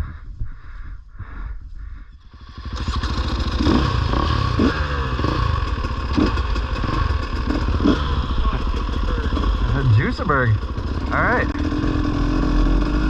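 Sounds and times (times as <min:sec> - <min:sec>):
dirt bike engine running: 0:01.2 - 0:13.0.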